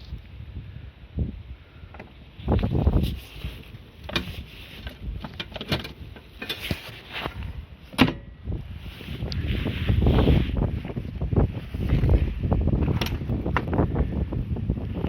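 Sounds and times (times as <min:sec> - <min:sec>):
wind buffeting microphone: 0:00.0 - 0:06.2, 0:07.2 - 0:15.0.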